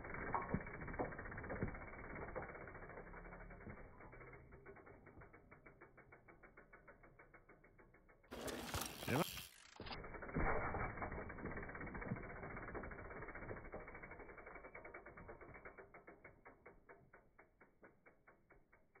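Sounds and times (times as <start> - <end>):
bike hub ratchet ticking: 0.0 - 9.9, 11.6 - 19.0.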